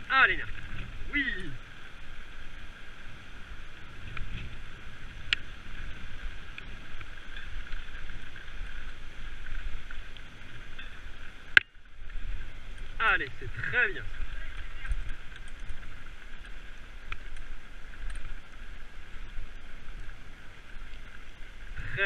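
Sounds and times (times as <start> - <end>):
bike tyre noise on dirt: 0.0 - 22.0
wind buffeting microphone: 0.0 - 22.0.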